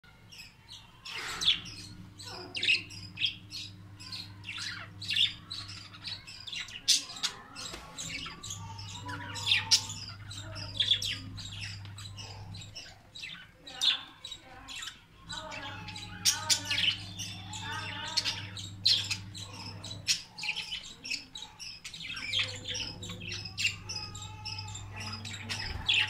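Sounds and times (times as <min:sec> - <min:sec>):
budgerigars chirping: 0:00.1 - 0:26.0
faint low hum: 0:00.1 - 0:26.0.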